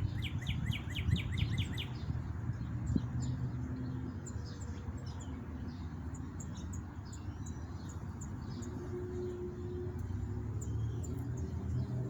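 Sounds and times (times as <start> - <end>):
small songbirds chirping: 0.0 - 12.0
wind rumble on microphone: 0.0 - 12.0.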